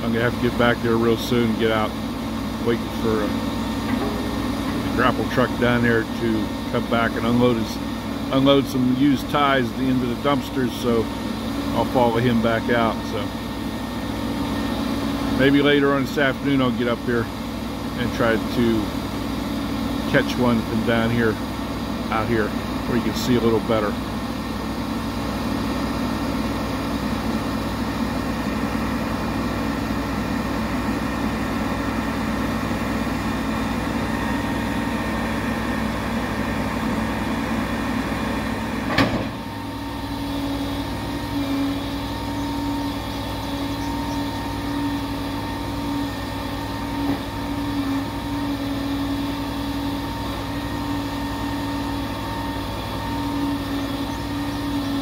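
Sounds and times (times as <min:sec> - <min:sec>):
heavy truck engine running: 0:00.0 - 0:55.0.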